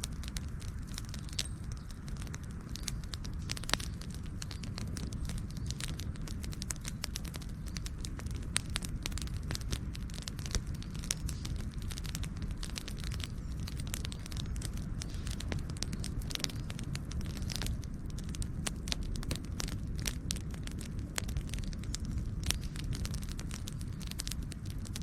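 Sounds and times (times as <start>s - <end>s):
campfire crackling and popping: 0.0s - 25.0s
low rumble of flames: 0.0s - 25.0s.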